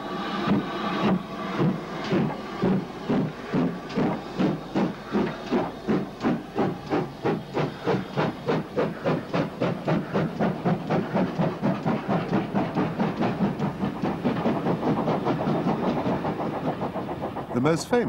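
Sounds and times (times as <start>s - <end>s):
steam locomotive chuffing: 0.0s - 18.0s.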